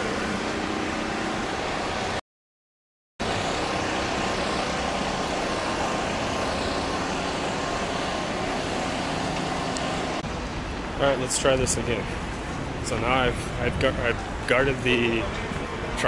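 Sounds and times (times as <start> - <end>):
outdoor background noise: 0.0 - 2.2, 3.2 - 16.0.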